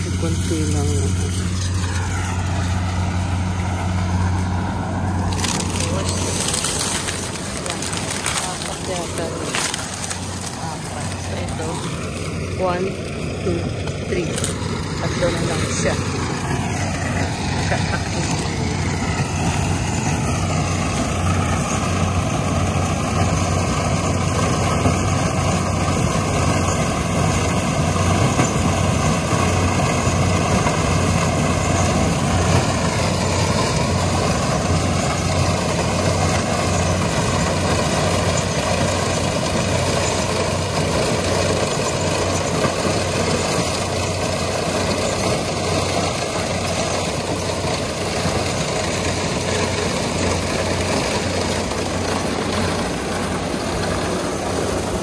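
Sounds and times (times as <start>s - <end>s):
combine harvester engine humming: 0.0s - 55.0s.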